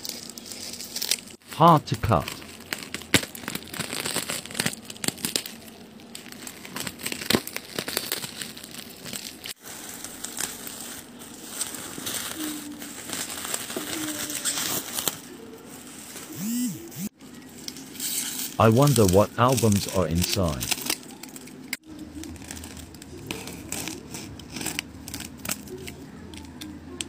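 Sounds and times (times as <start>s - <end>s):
plastic wrap crinkling: 0.0s - 16.4s, 17.4s - 27.0s.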